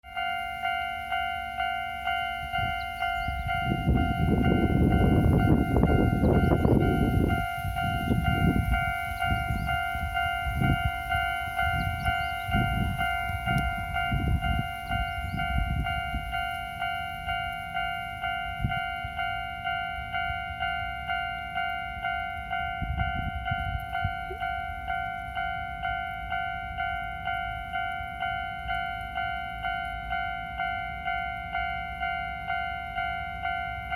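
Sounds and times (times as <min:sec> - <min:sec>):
level crossing bell ringing: 0:00.0 - 0:33.9
train rumble: 0:00.0 - 0:33.9.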